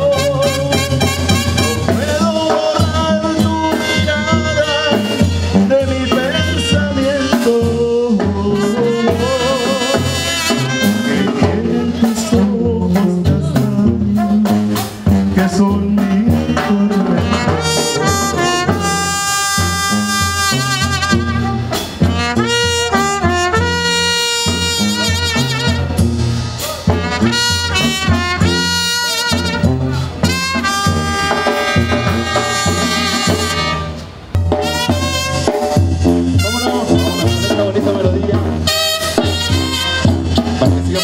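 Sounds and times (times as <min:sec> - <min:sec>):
horns playing melody: 0:00.0 - 0:41.0
steady drum beat: 0:00.0 - 0:41.0
tuba bass: 0:00.0 - 0:41.0.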